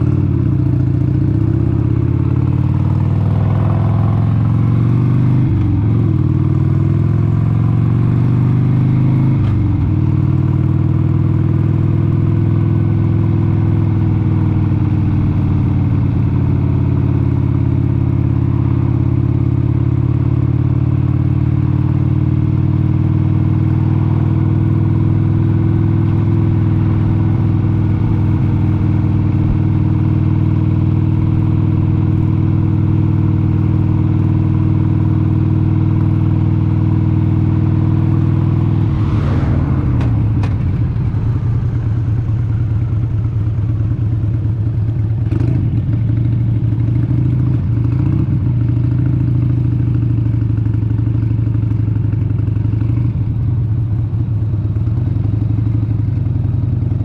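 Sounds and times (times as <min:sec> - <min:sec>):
motorcycle engine under way: 0:00.0 - 0:38.8, 0:40.0 - 0:57.0.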